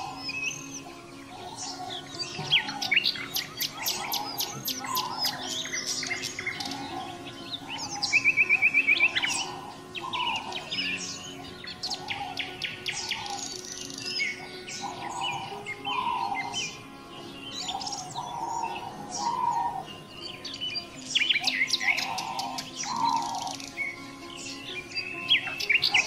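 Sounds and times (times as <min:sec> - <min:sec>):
fast bird trill: 0:00.0 - 0:26.0
songbirds chirping and whistling: 0:00.0 - 0:26.0.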